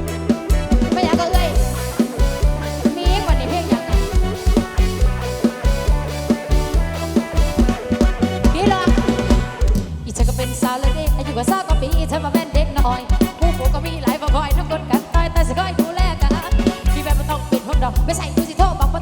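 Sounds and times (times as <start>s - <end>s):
bass drum pounding beat: 0.0s - 19.0s
live band music: 0.0s - 19.0s.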